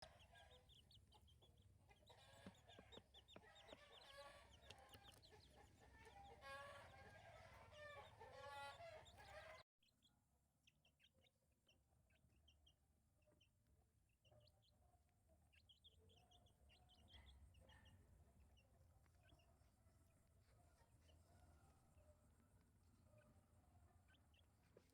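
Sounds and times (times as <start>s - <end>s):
chicken clucking and chirping: 0.0s - 24.9s.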